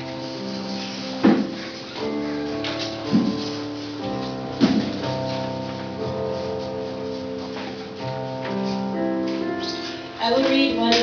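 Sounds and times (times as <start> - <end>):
slow instrumental worship music: 0.0 - 11.0.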